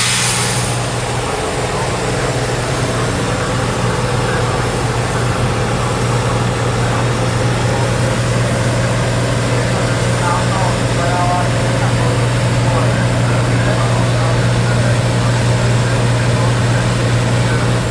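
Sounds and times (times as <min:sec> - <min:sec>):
diesel truck engine idling: 0:00.0 - 0:17.9.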